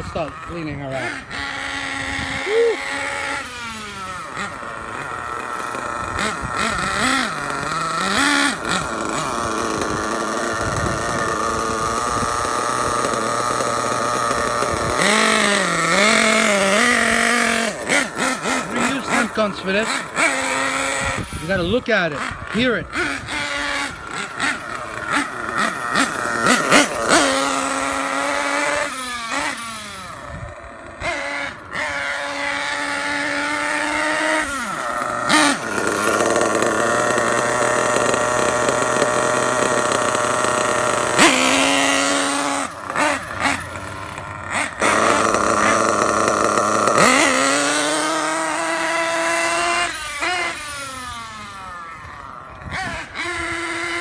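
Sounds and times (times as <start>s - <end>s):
nitro engine revving: 0.0s - 54.0s.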